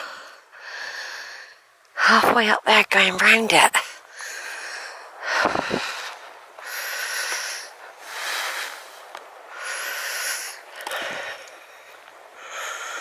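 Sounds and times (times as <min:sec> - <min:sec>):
person breathing heavily: 0:00.0 - 0:02.2, 0:03.8 - 0:13.0.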